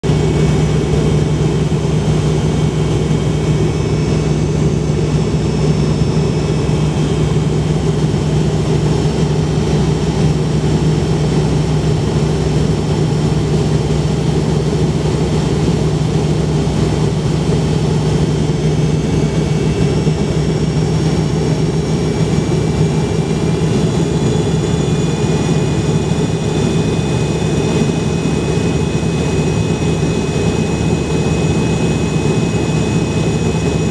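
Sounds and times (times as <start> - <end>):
jet engine drone in cabin: 0.0 - 33.9.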